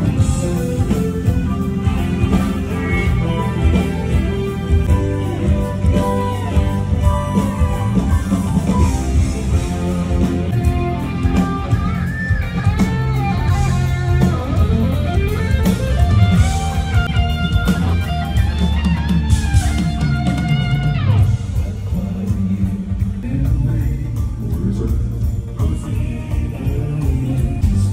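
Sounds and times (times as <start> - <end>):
electric guitar lead: 0.0 - 27.9
live rock band: 0.0 - 27.9.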